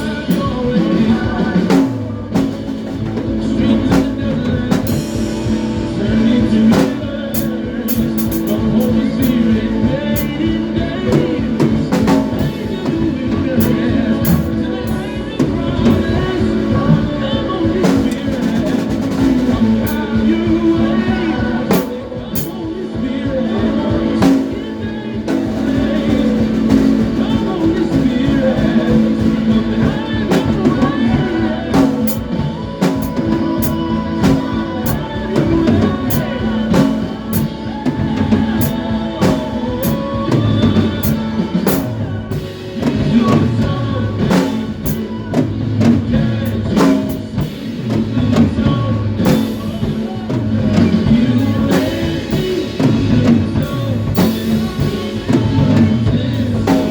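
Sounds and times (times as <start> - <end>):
drum kit playing: 0.0 - 56.9
live band music: 0.0 - 56.9.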